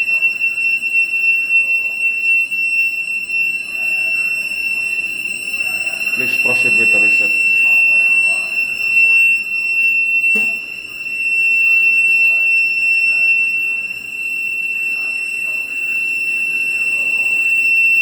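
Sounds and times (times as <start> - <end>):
high-pitched alarm buzzer: 0.0 - 18.0.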